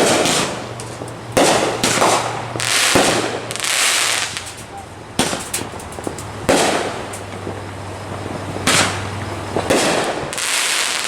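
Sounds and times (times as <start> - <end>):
fireworks bangs with crackle: 0.0 - 11.0.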